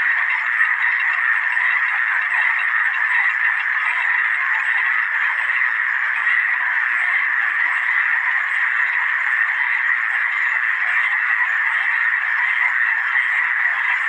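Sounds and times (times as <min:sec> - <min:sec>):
frogs chorus: 0:00.0 - 0:14.0.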